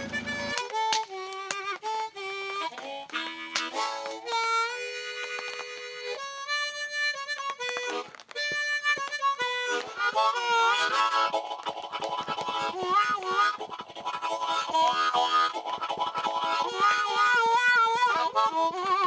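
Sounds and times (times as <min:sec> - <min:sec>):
harmonica playing: 0:00.0 - 0:19.0.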